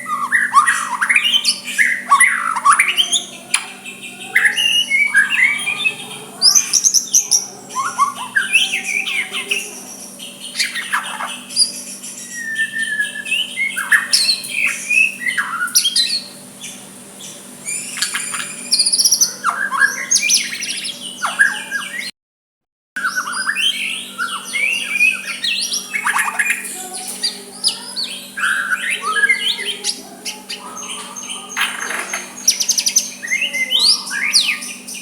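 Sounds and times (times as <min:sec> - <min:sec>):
bird singing: 0:00.0 - 0:22.1, 0:23.0 - 0:35.0.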